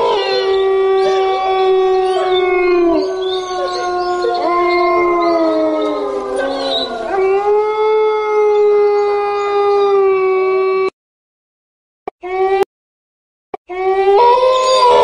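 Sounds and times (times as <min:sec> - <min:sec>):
long drawn-out howling: 0:00.0 - 0:10.9, 0:13.7 - 0:15.0.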